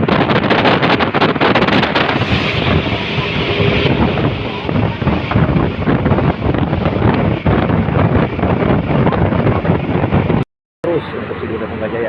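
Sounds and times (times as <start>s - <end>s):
wind buffeting microphone: 0.0s - 10.4s
road traffic rumble: 0.5s - 12.0s.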